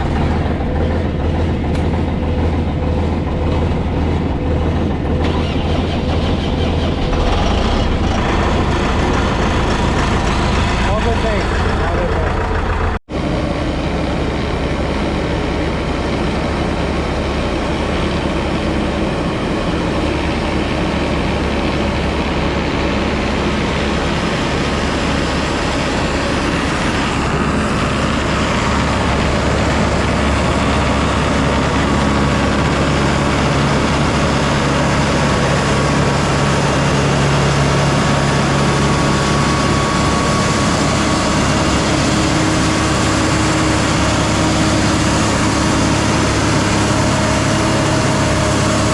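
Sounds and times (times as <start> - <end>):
large engine droning: 0.0 - 48.9.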